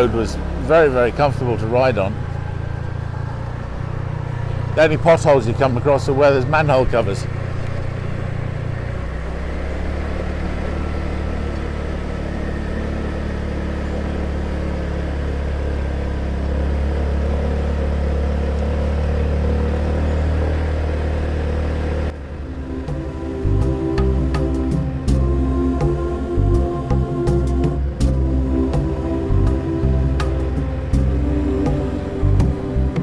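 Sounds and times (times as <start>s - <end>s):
motor scooter engine hum: 0.0s - 33.0s
road and wind noise: 0.0s - 33.0s.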